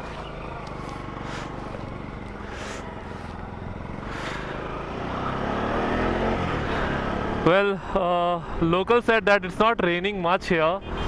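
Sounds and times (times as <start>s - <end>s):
road noise: 0.0s - 11.0s
vehicle engine: 0.0s - 11.0s.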